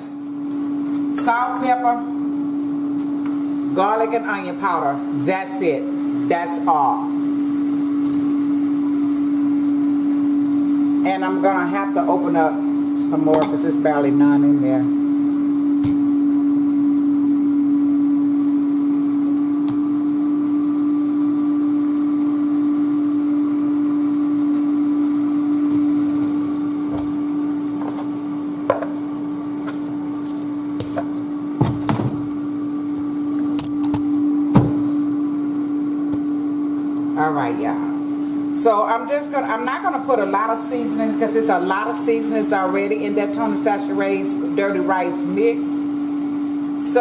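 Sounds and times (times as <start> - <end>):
electrical appliance hum: 0.0 - 47.0.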